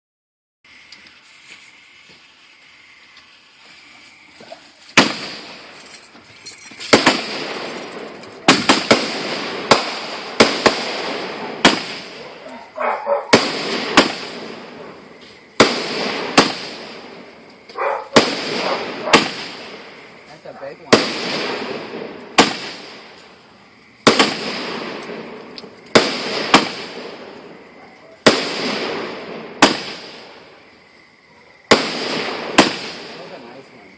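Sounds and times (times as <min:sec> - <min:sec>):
hissing crackling decay: 0:00.7 - 0:06.2, 0:06.8 - 0:33.9
fireworks banging: 0:01.9 - 0:30.9, 0:31.6 - 0:33.9.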